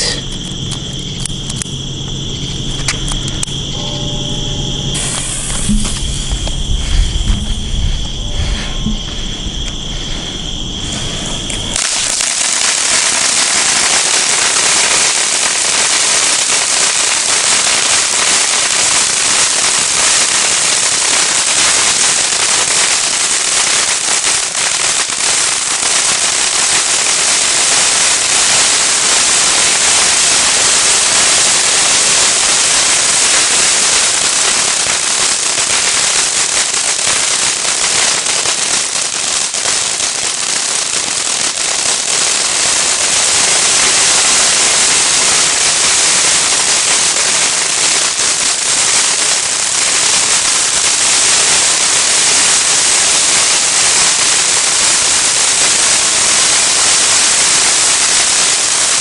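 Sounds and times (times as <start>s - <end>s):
rush of sparks: 0.0s - 1.6s, 4.8s - 59.0s
firework fountain crackling: 0.0s - 59.0s.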